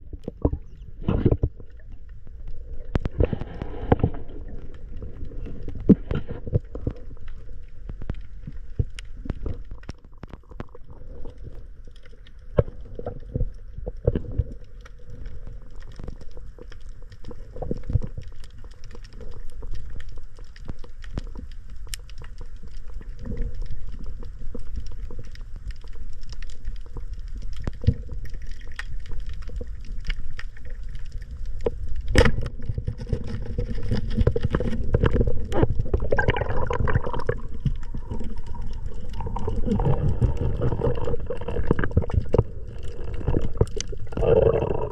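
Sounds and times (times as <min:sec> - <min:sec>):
muffled underwater rumble: 0:00.0 - 0:44.9
water gurgling: 0:00.0 - 0:44.9.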